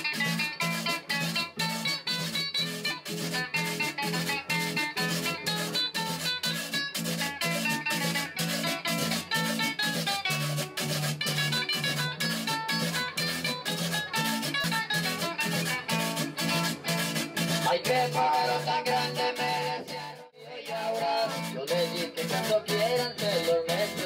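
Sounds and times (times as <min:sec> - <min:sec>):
acoustic guitars playing: 0:00.0 - 0:24.0
hand percussion scraped or shaken: 0:00.0 - 0:24.0.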